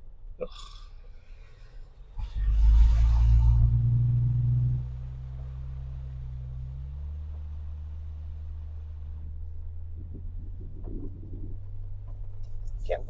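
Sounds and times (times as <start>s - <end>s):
vehicle engine pulling hard: 2.2s - 13.0s.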